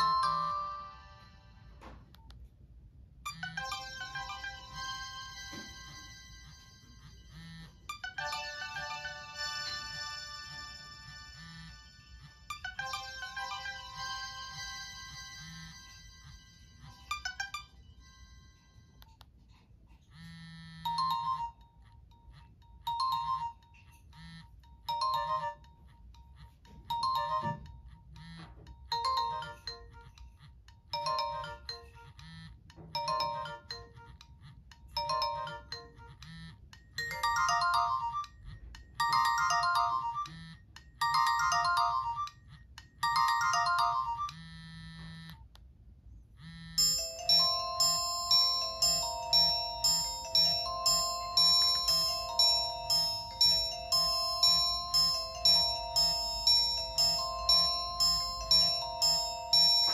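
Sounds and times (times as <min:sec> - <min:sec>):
electronic ringtone phrase: 0:00.0 - 0:01.5, 0:03.3 - 0:11.8, 0:20.2 - 0:42.4, 0:43.0 - 0:45.3, 0:46.4 - 0:59.9
different ringtone: 0:00.0 - 0:02.1, 0:03.1 - 0:45.5, 0:46.3 - 0:59.9.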